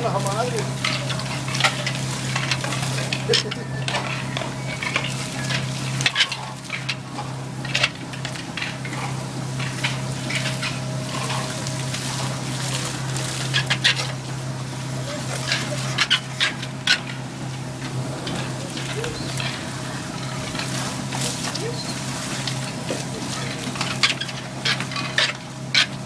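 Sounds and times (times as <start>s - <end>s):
hand tools scraping wet plaster: 0.0s - 17.2s, 17.8s - 26.0s
low motor hum: 0.0s - 26.0s.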